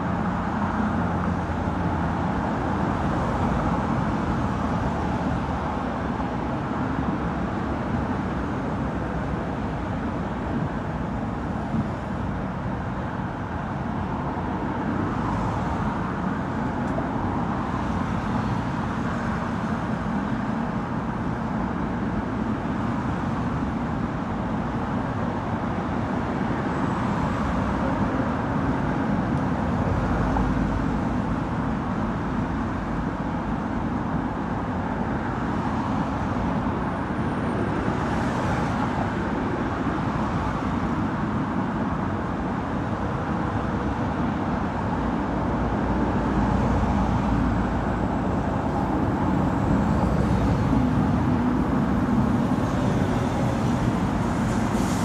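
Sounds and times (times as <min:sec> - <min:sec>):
heavy traffic passing: 0:00.0 - 0:55.0.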